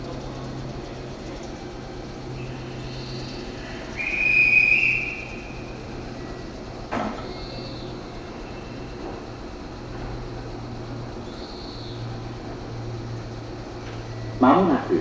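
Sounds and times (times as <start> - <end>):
steady low hum: 0.0 - 15.0
train wheels squealing on rails: 0.0 - 15.0.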